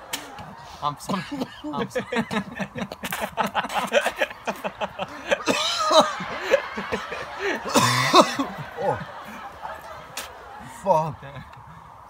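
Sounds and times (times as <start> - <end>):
breathy burst of laughter: 0.0 - 11.8
young men laughing: 0.0 - 12.0.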